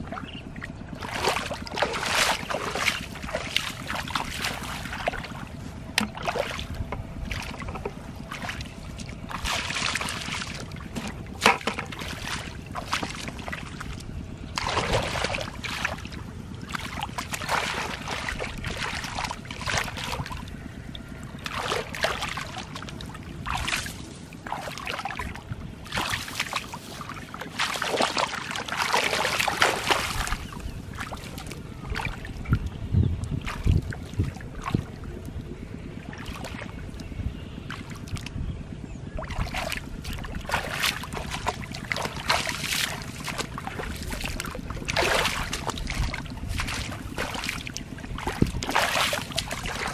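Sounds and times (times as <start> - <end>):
muddy water splashing: 0.0 - 49.9
wind rumble on microphone: 0.0 - 49.9.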